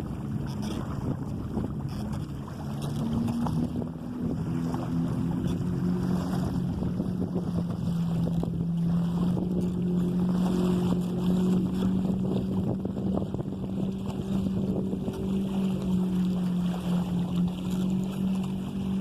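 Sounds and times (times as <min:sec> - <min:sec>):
low drone: 0:00.0 - 0:19.0
water washing along hull: 0:00.0 - 0:19.0
wind buffeting microphone: 0:00.0 - 0:19.0.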